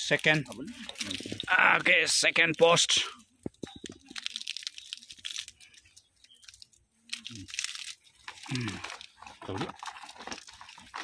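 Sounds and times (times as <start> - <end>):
leaves crackling and tearing: 0.1 - 11.0.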